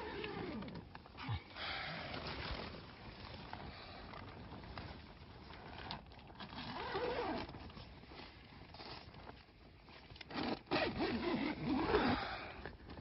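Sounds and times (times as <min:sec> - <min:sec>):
tent zipper rasping: 0:00.0 - 0:04.9, 0:05.5 - 0:09.2, 0:10.2 - 0:12.6
tent fabric rustling: 0:00.0 - 0:13.0.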